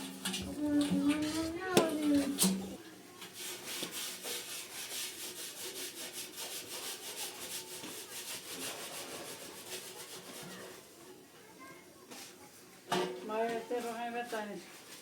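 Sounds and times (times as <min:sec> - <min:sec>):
rhythmic rubbing and scraping of dough: 0:00.0 - 0:11.0, 0:13.3 - 0:15.0.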